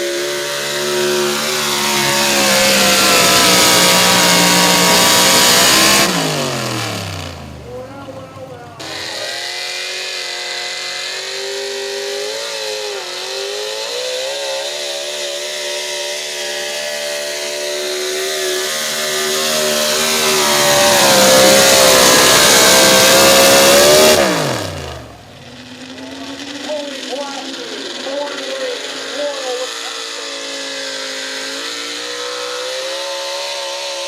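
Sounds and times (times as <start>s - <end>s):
pulling truck engine at high revs: 0.0s - 34.0s.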